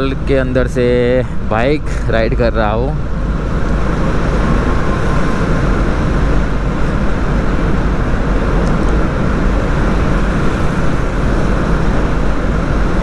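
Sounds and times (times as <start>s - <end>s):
traffic in tunnel: 0.0s - 13.0s
wind rumble: 0.0s - 13.0s.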